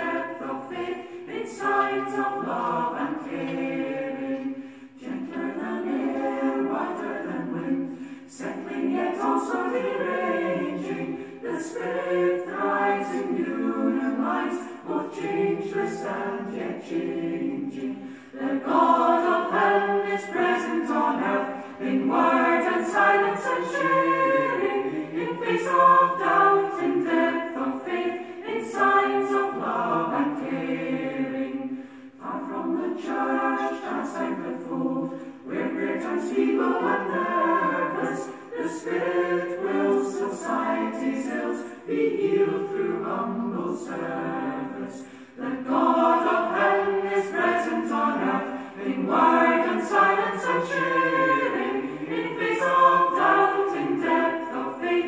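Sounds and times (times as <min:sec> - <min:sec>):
choir singing unaccompanied: 0:00.0 - 0:55.0.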